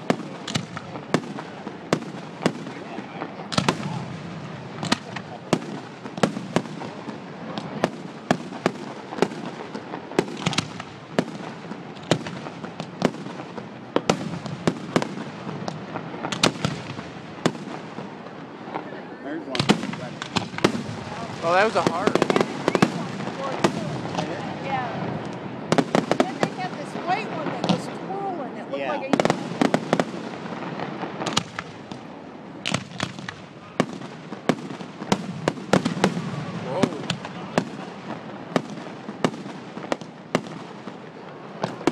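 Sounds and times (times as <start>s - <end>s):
fireworks bangs: 0.0s - 41.9s
steady background noise: 0.0s - 41.9s.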